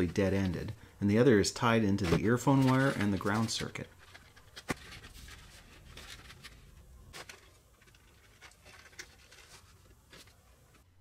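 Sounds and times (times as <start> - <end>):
wire handling scratching and rustling: 2.0 - 10.9.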